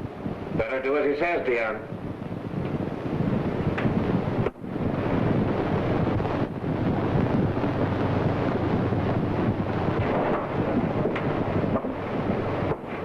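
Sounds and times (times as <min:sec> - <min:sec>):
wind-like rushing noise: 0:00.0 - 0:13.0.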